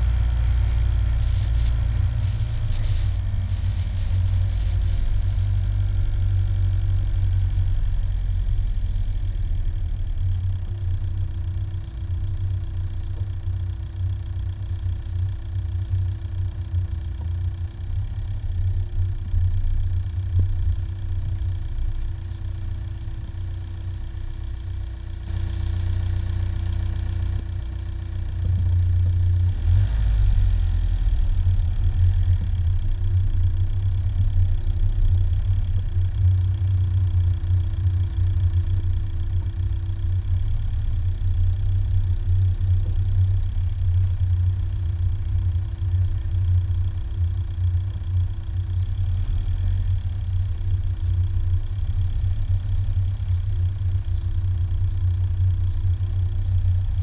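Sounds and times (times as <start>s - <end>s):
car engine and tyres rumbling: 0.0s - 57.0s
faint steady hum: 0.0s - 57.0s.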